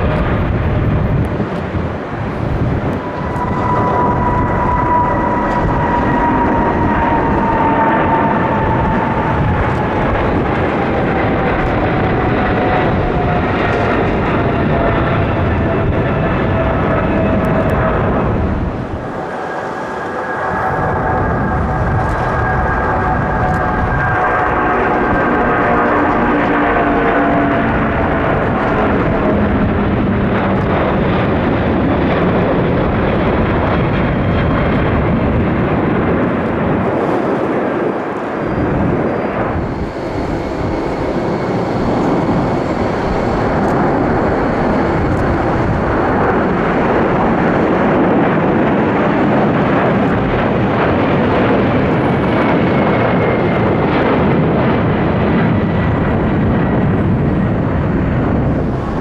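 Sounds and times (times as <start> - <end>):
faint whines sliding in pitch: 0.0 - 30.8, 35.8 - 50.6, 55.5 - 59.0
jet engines roaring: 0.0 - 59.0.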